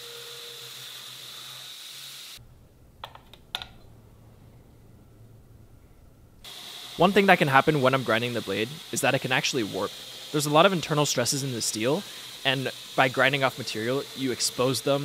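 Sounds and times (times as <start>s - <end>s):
faint steady hiss: 2.4s - 15.0s.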